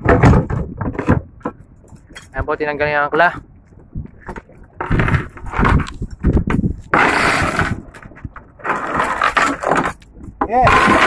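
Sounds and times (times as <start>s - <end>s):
anchor chain rattling and clanking: 0.0s - 3.4s, 4.2s - 11.0s.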